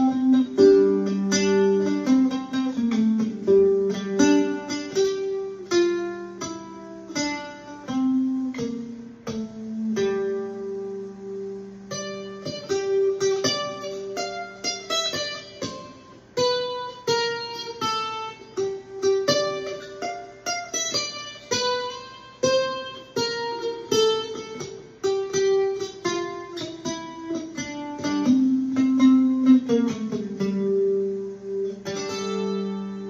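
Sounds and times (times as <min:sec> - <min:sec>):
mandolin playing jig rhythm: 0:00.0 - 0:33.0.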